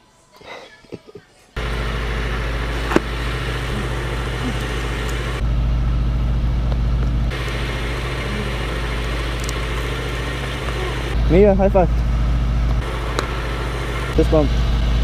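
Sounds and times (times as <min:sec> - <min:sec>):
motorcycle engine idling: 0:01.6 - 0:15.0.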